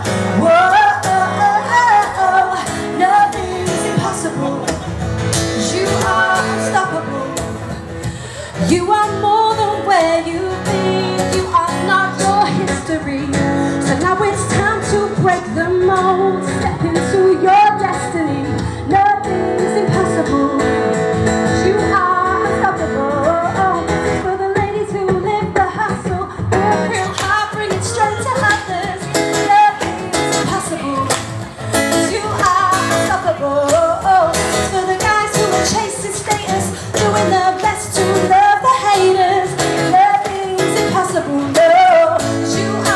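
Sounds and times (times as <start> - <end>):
band playing guitar keyboards drums: 0.0 - 14.5, 22.5 - 42.9
woman singing into a microphone: 0.0 - 42.9.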